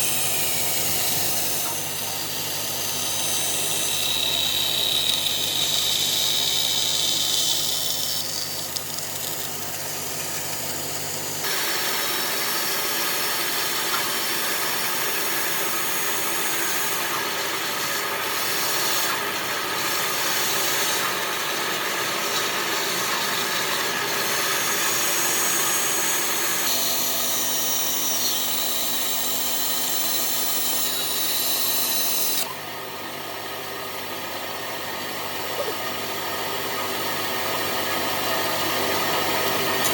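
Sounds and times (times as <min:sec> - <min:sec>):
power tools whirring on wood: 0:00.0 - 0:32.6.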